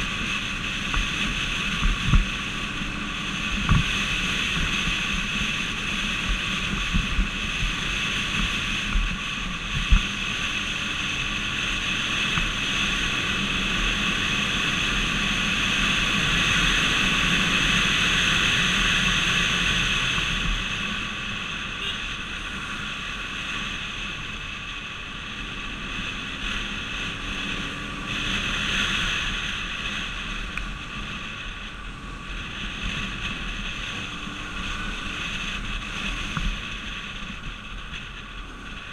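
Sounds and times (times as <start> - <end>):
vehicle road and wind noise: 0.0 - 38.9.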